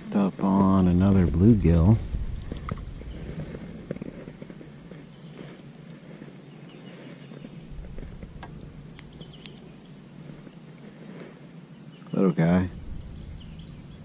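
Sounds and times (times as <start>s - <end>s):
insect trill: 0.0s - 14.0s.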